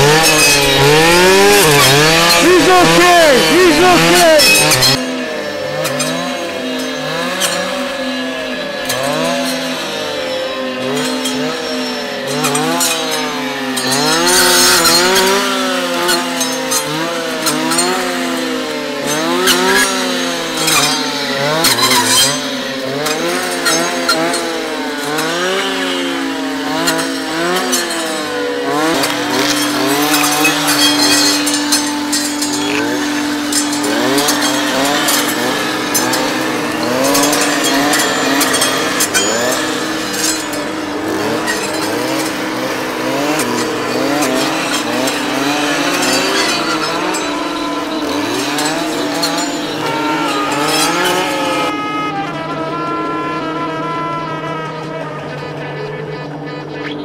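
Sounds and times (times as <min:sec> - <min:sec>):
brush saw revving: 0:00.0 - 0:57.0
engine at steady speed: 0:00.0 - 0:57.0.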